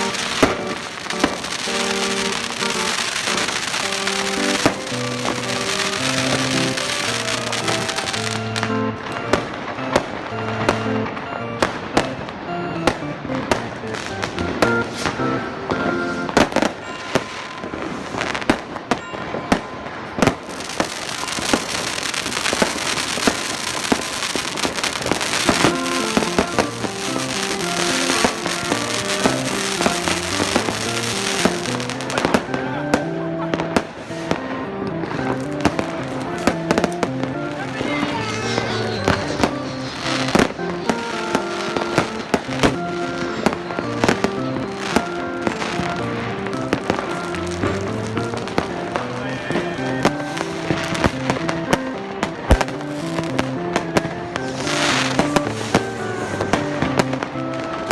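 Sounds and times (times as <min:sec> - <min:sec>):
background music: 0:00.0 - 0:57.9
fireworks bangs and crackling: 0:00.0 - 0:57.9.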